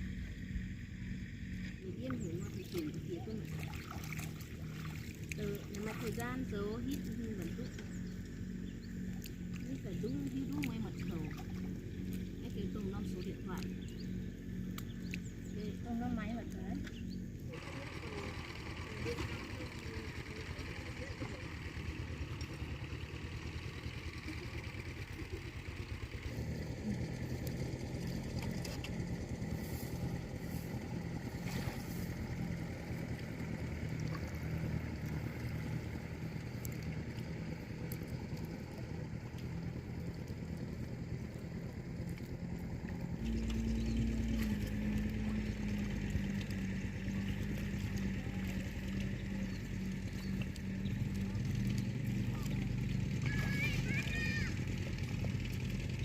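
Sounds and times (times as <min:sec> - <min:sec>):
small engine puttering: 0:00.0 - 0:56.0.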